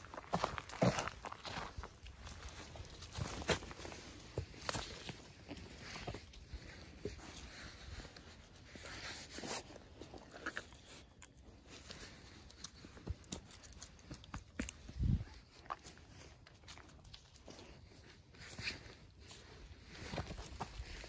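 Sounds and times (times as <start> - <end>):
footsteps crunching on trail: 0.0 - 21.0.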